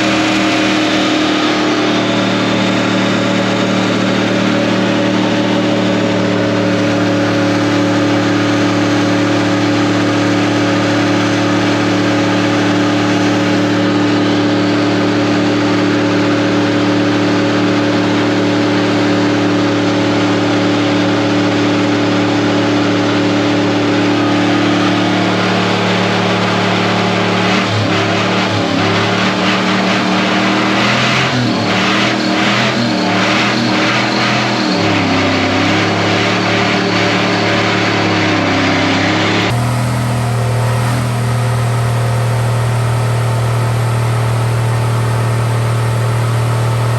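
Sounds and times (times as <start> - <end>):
pickup engine revving: 0.0 - 46.9
tire spinning: 0.0 - 46.9.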